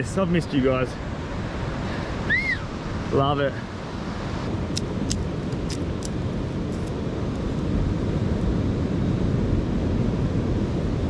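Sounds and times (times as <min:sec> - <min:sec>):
ocean surf: 0:00.0 - 0:11.0
wind on microphone: 0:00.0 - 0:11.0.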